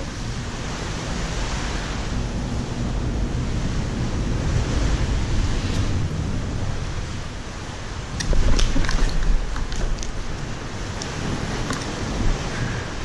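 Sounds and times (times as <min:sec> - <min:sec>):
deep rumble: 0:00.0 - 0:13.0
wind rushing on microphone: 0:00.0 - 0:13.0.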